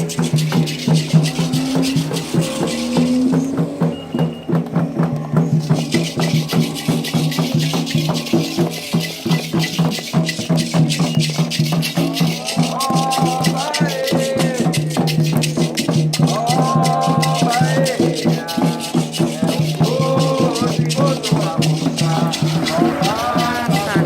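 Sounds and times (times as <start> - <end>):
shaker rattle: 0.0 - 3.9, 5.5 - 24.0
drums: 0.0 - 24.0
people singing: 0.0 - 24.0.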